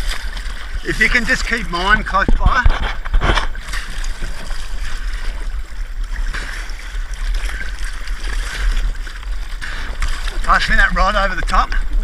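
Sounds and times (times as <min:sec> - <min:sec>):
steady low rumble: 0:00.0 - 0:12.0
water splashing around kayak: 0:00.0 - 0:12.0.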